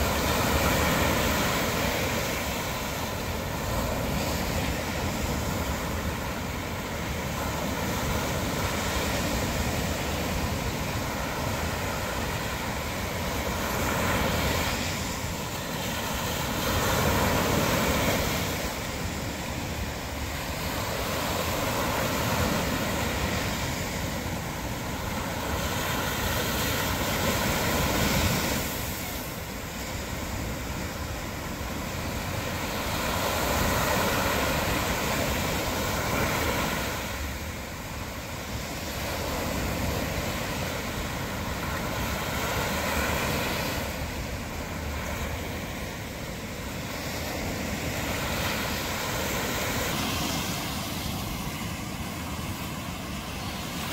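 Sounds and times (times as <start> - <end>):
small waves breaking on beach: 0.0 - 53.9.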